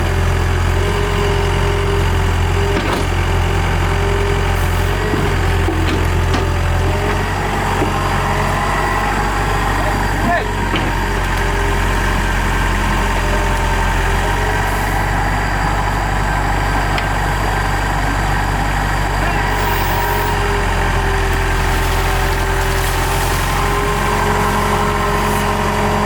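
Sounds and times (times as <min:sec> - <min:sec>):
excavator engine idling: 0:00.0 - 0:26.0.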